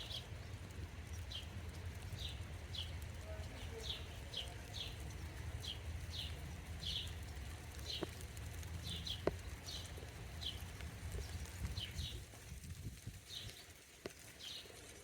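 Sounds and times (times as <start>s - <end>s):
steady low rumble: 0.0s - 13.6s.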